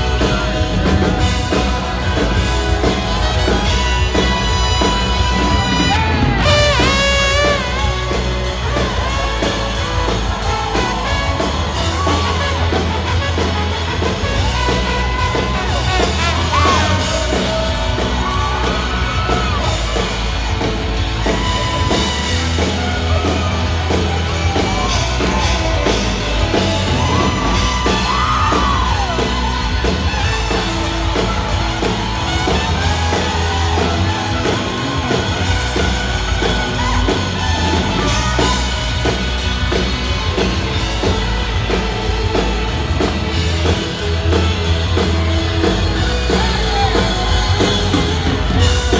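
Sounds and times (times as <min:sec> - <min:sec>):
crowd yelling and whooping: 0:00.0 - 0:48.9
live country-rock band: 0:00.0 - 0:48.9.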